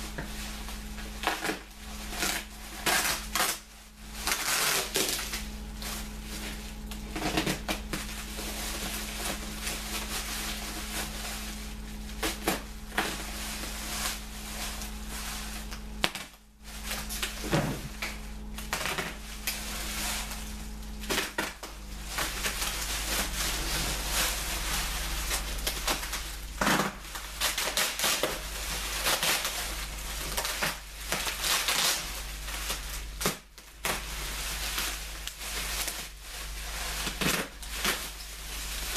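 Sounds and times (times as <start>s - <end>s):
bubble wrap crinkling and crackling: 0.0s - 38.9s.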